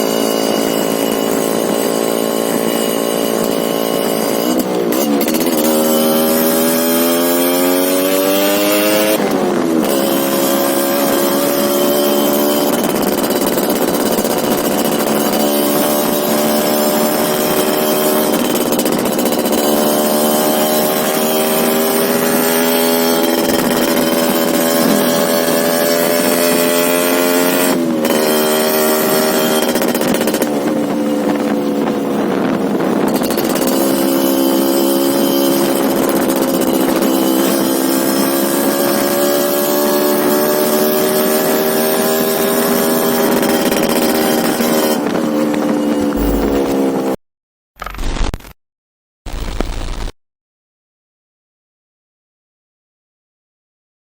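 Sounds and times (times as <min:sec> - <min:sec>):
two-stroke motorcycle engine running: 0:00.0 - 0:47.2.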